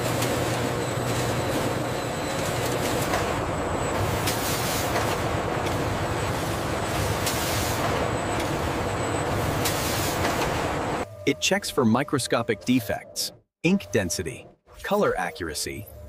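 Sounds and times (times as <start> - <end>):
machinery rumble and hum: 0.0 - 14.5.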